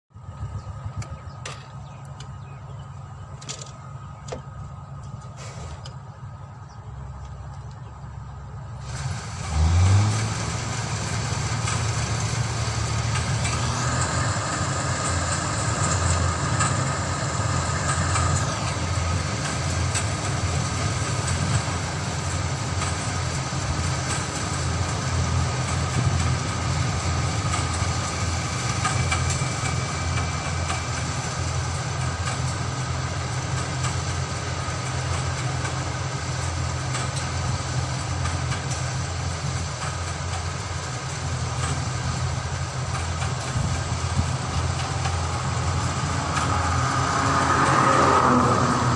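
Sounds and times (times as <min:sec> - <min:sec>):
combine harvester diesel engine: 0:00.1 - 0:48.9
threshing machinery running: 0:08.7 - 0:48.9.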